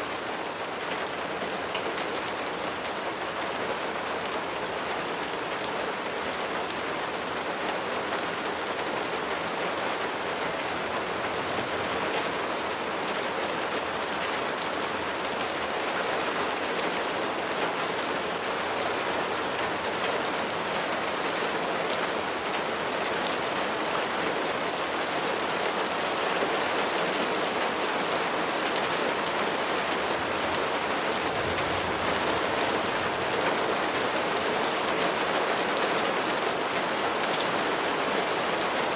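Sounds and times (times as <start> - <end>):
rain pattering: 0.1 - 38.9.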